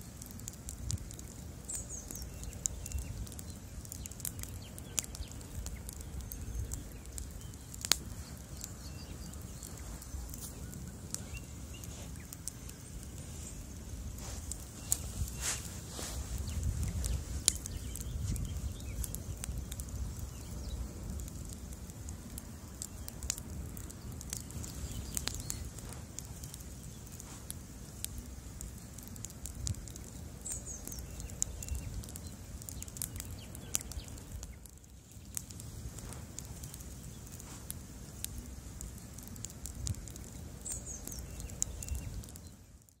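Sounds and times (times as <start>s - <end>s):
low rumble of flame: 0.0s - 43.0s
wood crackling and popping: 0.0s - 43.0s.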